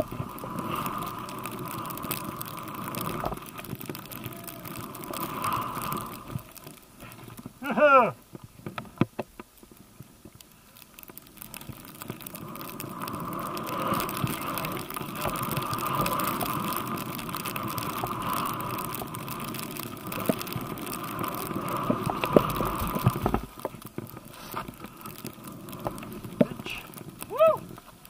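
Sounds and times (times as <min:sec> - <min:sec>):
skis hissing through powder snow: 0:00.0 - 0:08.2, 0:09.7 - 0:28.0.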